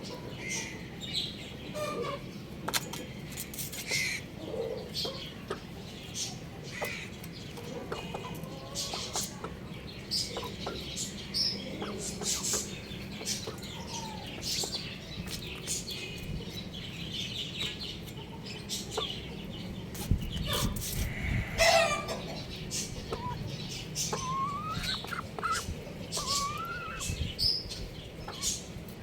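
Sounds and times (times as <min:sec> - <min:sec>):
young rooster chirping and clucking: 0:00.0 - 0:29.0.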